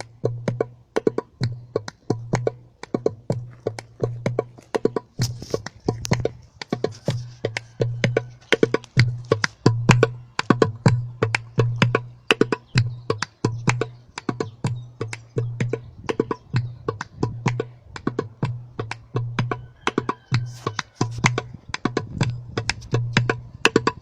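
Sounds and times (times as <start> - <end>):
hand drum playing: 0.0 - 20.1, 20.7 - 24.0.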